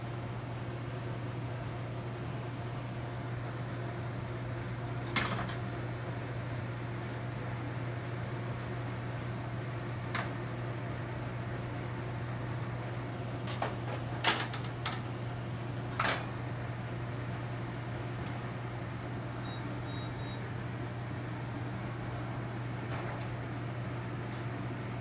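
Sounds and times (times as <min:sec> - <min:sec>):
casting machine low hum: 0:00.0 - 0:25.0.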